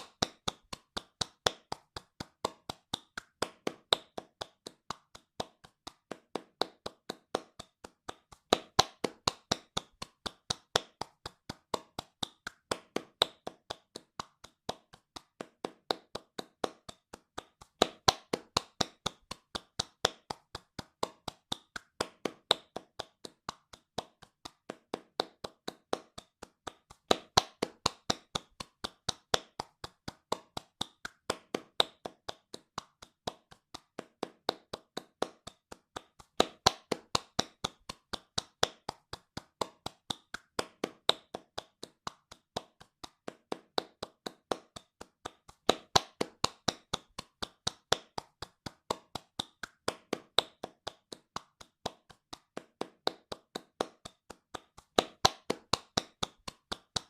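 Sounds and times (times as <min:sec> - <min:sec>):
hands clapping fast: 0:00.0 - 0:57.0.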